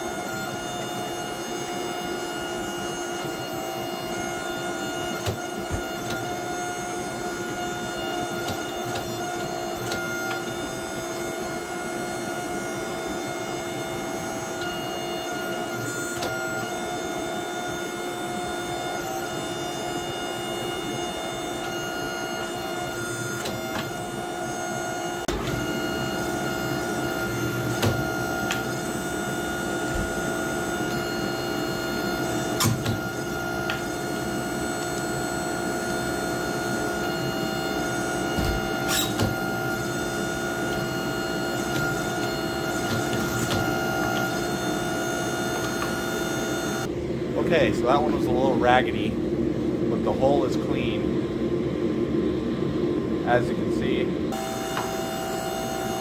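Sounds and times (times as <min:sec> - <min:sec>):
hydraulic press whining: 0:00.0 - 0:49.2, 0:53.0 - 0:56.0.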